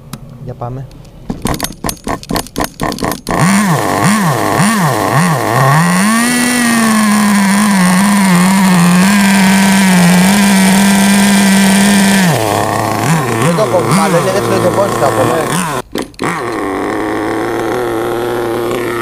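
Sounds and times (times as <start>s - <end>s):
small engine revving at high revs: 1.5s - 19.0s.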